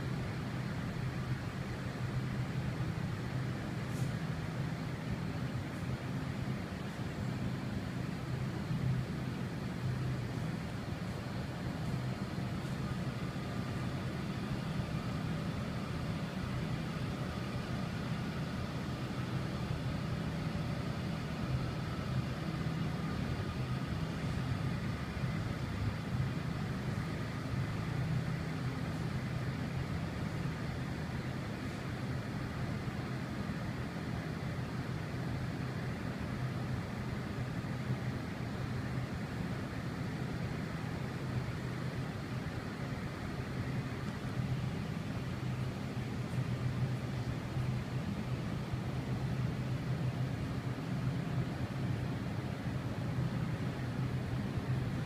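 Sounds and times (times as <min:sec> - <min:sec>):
low mechanical hum of machinery: 0:00.0 - 0:55.0.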